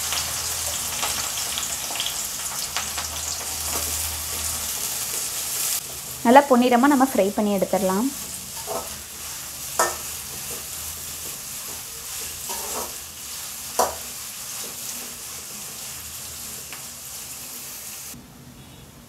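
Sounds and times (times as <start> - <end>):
onions sizzling in hot oil: 0.0 - 18.2.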